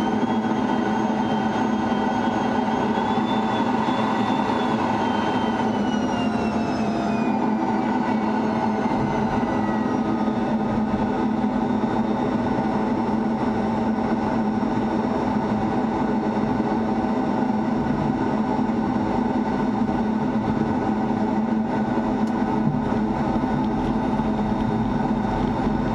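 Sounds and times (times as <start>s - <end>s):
jet engine and airflow noise: 0.0s - 25.9s.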